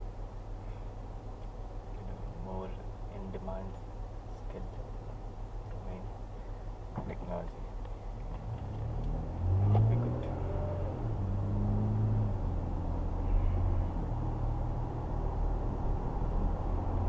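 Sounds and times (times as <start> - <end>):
car road and engine drone: 0.0 - 17.0.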